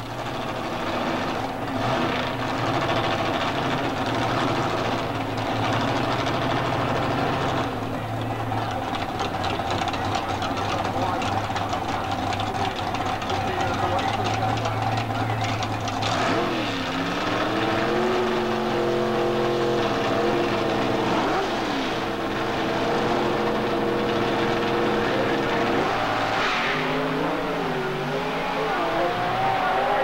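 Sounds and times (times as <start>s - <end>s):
drag car engines running hard: 0.0s - 30.0s.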